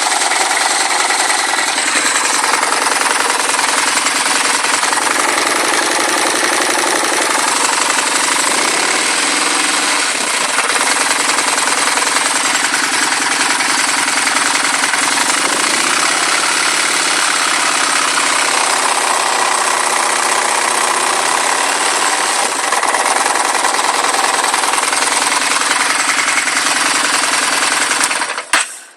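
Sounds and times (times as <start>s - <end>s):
engine revving: 0.0s - 28.5s
rapid knocking clatter: 0.0s - 28.6s
engine running: 0.0s - 28.9s.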